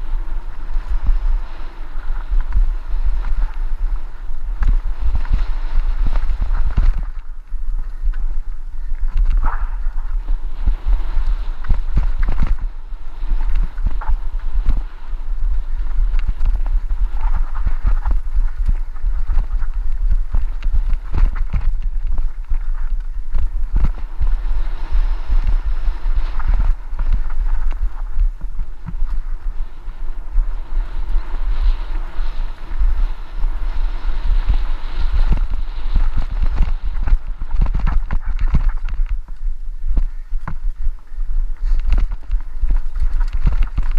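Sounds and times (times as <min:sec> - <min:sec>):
low wind rumble: 0:00.0 - 0:43.9
bike knocking and rattling: 0:00.2 - 0:29.6, 0:30.2 - 0:43.9.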